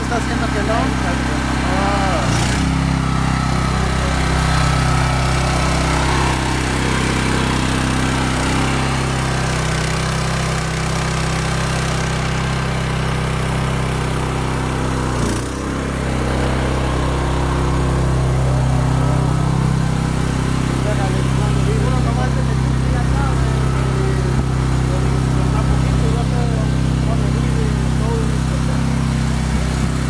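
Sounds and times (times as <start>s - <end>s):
hydraulic pump engine running: 0.0s - 30.0s.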